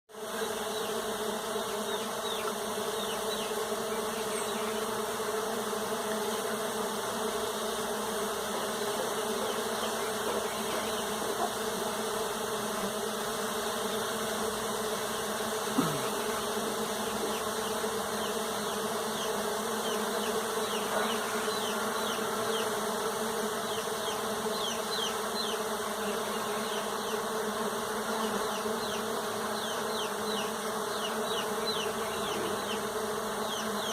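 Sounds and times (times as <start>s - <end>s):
bees buzzing: 0.1s - 33.9s.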